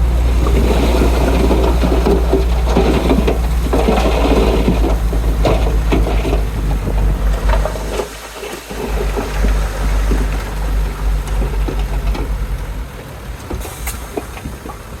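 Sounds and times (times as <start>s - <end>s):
bulldozer diesel engine running: 0.0s - 15.0s
tracks clanking: 0.0s - 15.0s.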